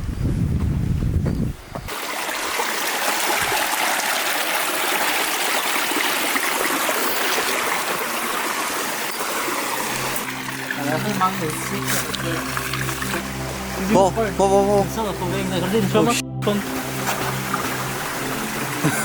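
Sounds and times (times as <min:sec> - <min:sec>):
stream water rushing over rocks: 0:01.9 - 0:15.5, 0:16.4 - 0:19.0.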